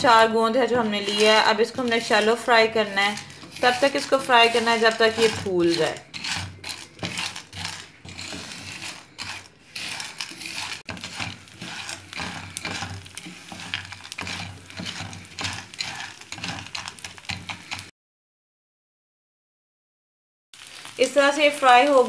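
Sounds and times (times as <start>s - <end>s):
spatula scraping in frying pan: 0.0s - 17.9s.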